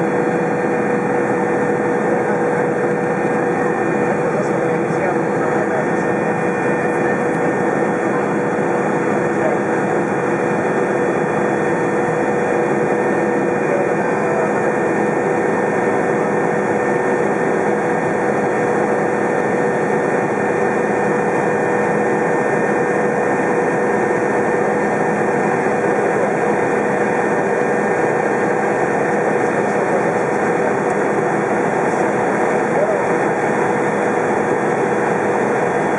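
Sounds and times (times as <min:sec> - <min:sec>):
constant whine: 0:00.0 - 0:35.9
helicopter turbine and rotor noise: 0:00.0 - 0:35.9.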